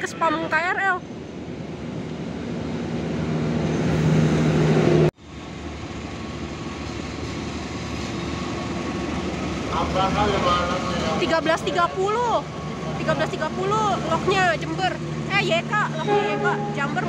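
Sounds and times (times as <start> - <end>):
diesel locomotive approaching: 0.0 - 17.0.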